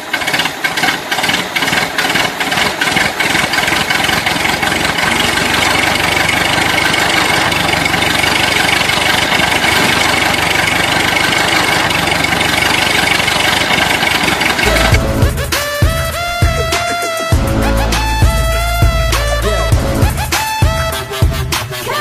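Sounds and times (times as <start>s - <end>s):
tractor engine idling: 0.0s - 21.6s.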